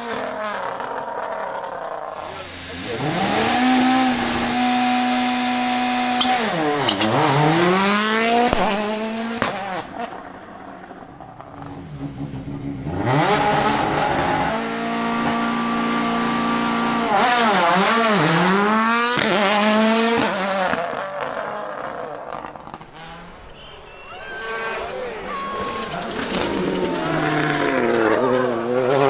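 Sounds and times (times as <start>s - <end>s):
rally car engine passing at speed: 0.0s - 29.0s.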